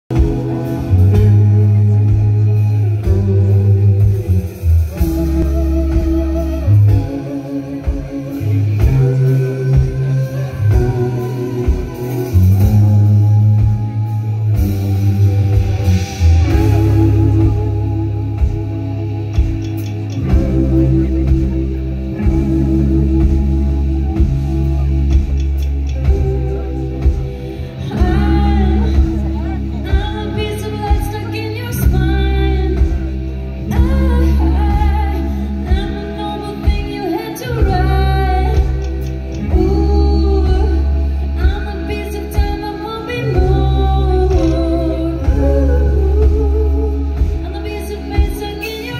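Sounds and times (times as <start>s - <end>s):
electric bass notes: 0.0s - 48.9s
guitar: 0.0s - 48.9s
live rock band playing: 0.1s - 48.9s.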